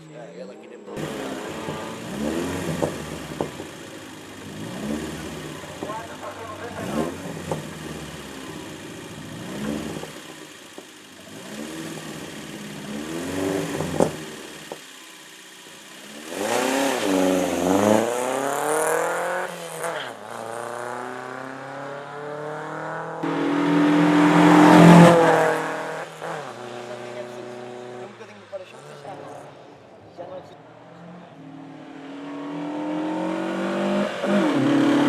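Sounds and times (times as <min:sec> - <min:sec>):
race car engine revving: 0:01.0 - 0:35.0.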